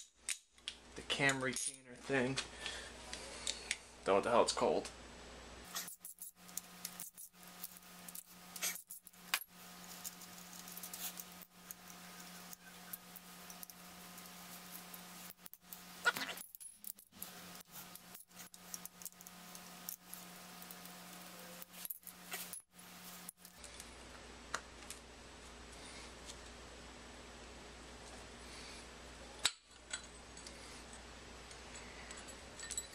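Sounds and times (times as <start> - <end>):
steady low hum: 0.8 - 32.9.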